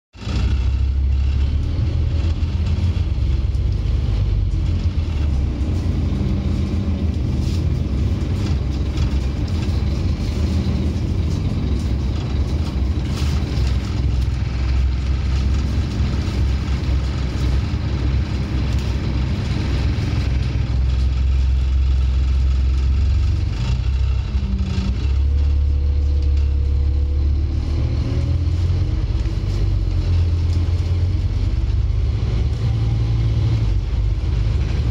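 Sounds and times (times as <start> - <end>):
diesel bus engine growl: 0.1 - 34.9.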